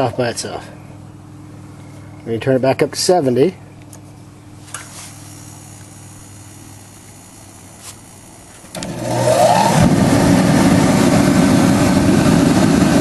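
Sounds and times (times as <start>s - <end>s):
heater fan running: 0.0s - 13.0s.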